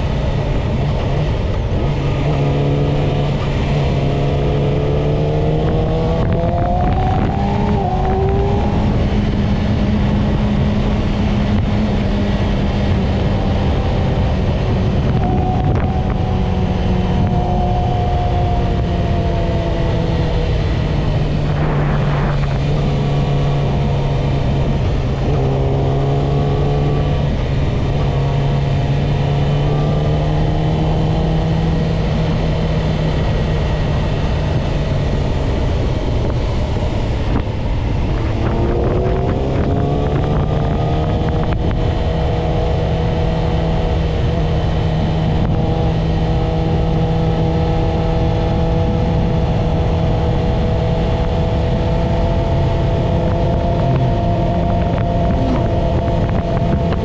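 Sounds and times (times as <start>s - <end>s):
motorcycle engine accelerating: 0.0s - 57.0s
steady rushing noise: 0.0s - 57.0s.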